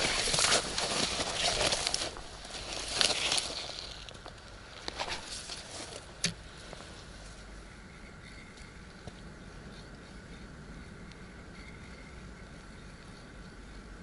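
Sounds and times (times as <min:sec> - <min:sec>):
clothing and gloves rustling: 0:00.0 - 0:12.2.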